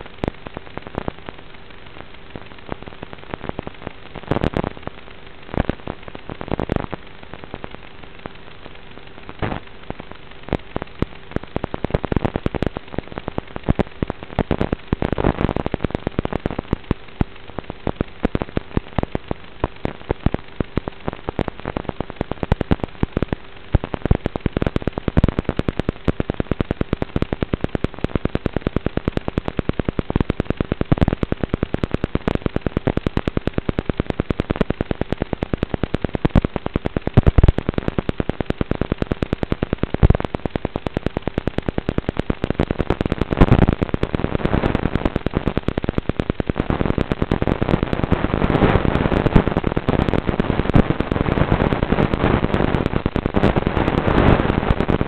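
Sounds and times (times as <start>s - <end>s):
crackling static with clicks: 0.0s - 55.0s.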